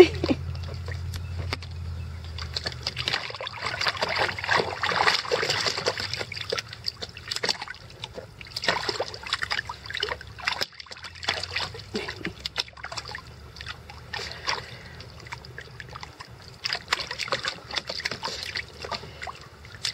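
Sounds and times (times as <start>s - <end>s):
puppies splashing in water: 0.0s - 19.9s.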